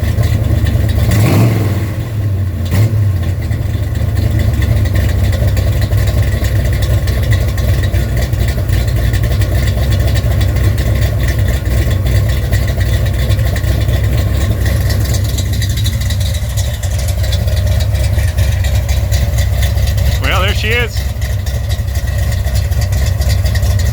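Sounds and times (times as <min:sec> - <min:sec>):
car engine idling: 0:00.0 - 0:01.1, 0:02.2 - 0:23.9.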